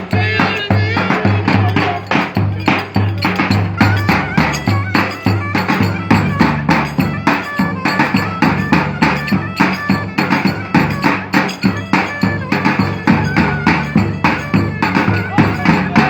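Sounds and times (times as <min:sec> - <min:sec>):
folk dance music: 0:00.0 - 0:16.0
loud percussion strikes: 0:00.0 - 0:16.0.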